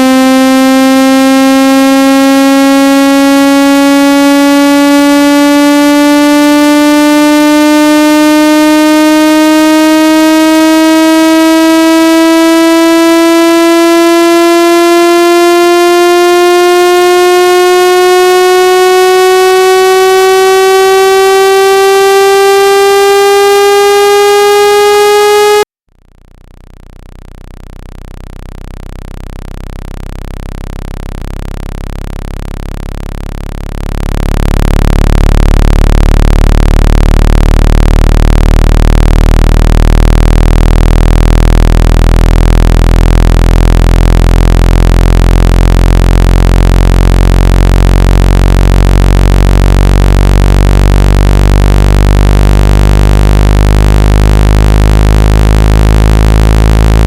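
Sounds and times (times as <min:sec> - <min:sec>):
low electronic buzzing tone: 0:00.0 - 0:57.0.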